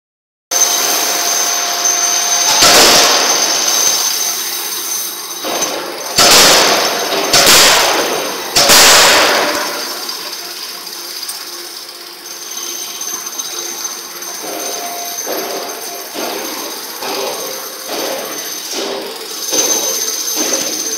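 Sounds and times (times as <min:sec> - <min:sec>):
forging hammer blows: 0:00.5 - 0:10.7, 0:12.6 - 0:20.9
machine noise with high whine: 0:00.5 - 0:20.9.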